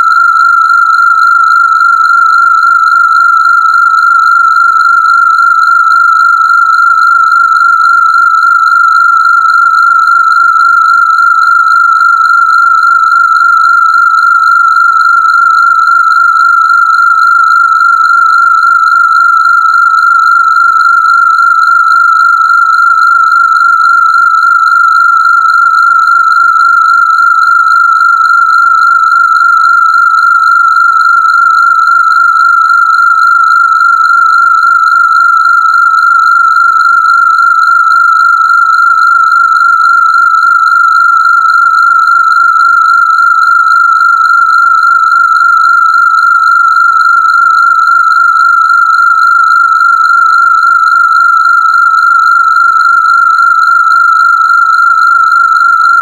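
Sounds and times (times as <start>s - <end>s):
steady high-pitched synthesized tone: 0.0s - 56.0s.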